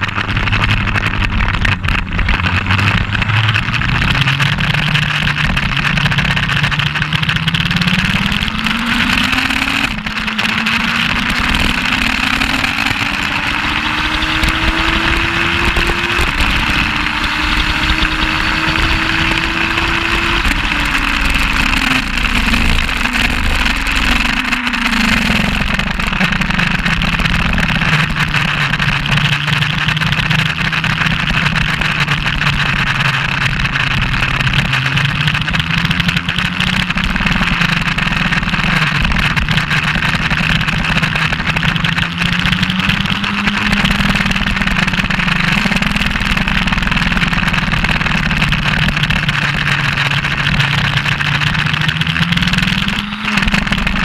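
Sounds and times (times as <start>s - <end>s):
motorcycle engine accelerating: 0.0s - 54.0s
wind rush over microphone: 0.0s - 54.0s.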